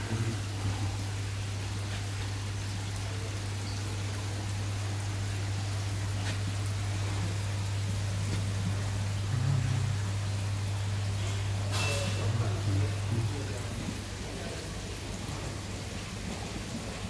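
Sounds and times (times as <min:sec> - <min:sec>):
aquarium water splashing and bubbling: 0:00.0 - 0:17.0
low electrical hum: 0:00.0 - 0:17.0.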